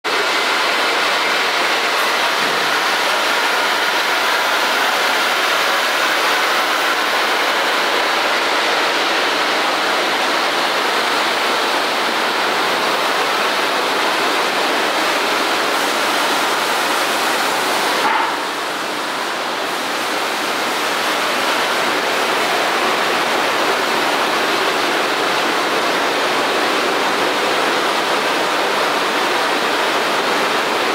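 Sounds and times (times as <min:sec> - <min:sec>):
factory machinery hiss: 0:00.1 - 0:25.7.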